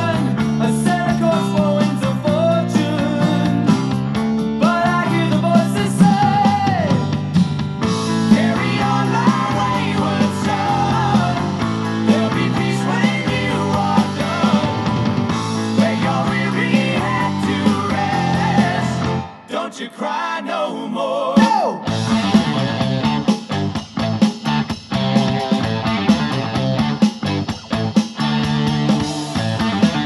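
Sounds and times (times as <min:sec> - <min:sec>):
rock music through a speaker: 0:00.0 - 0:19.8, 0:21.4 - 0:30.0.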